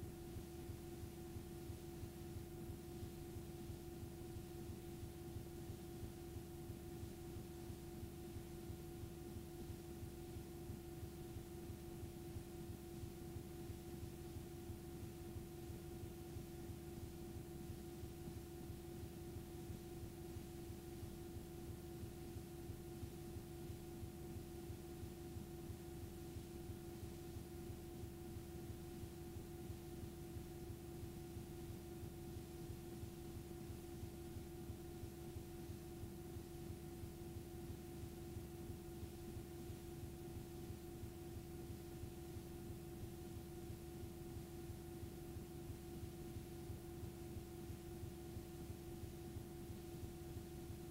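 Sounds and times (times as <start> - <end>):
faint tape hiss: 0.0 - 50.9
steady hum with held tone: 0.0 - 50.9.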